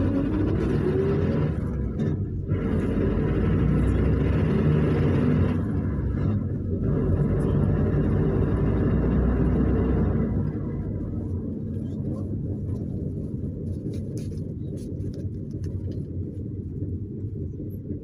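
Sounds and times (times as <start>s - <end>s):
minibus engine and road rumble: 0.0s - 18.0s.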